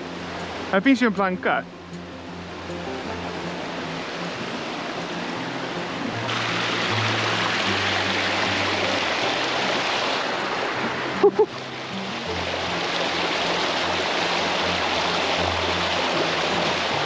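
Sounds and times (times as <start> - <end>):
river rapids roaring: 0.0 - 17.0.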